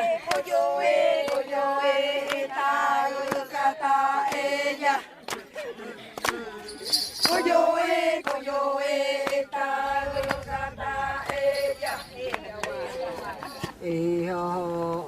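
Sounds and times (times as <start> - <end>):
voices chanting held notes: 0.0 - 15.0.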